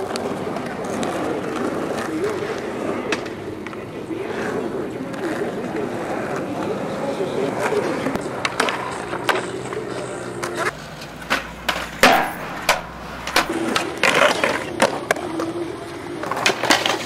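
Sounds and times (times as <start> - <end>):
skateboard clacks and slaps: 0.0 - 17.0
skateboard rolling on concrete: 0.0 - 17.0.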